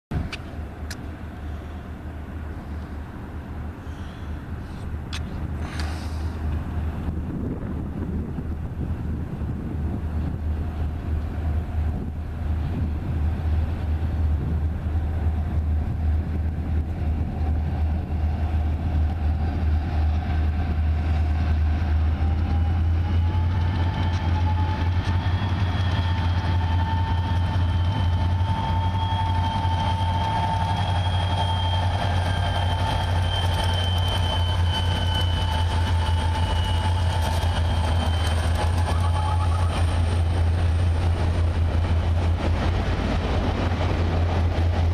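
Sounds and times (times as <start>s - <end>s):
freight train rumbling by: 0.1s - 44.9s.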